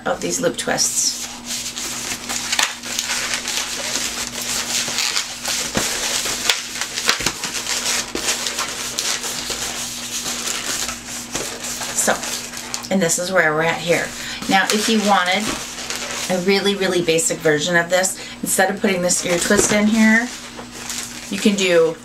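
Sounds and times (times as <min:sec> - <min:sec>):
balloon latex rubbing and crackling: 0:01.0 - 0:12.9, 0:13.8 - 0:17.1, 0:19.0 - 0:21.7.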